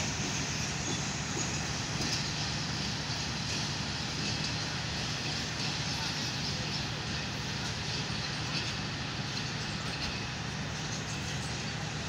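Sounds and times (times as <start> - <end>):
train rolling over tracks: 0.0 - 12.0.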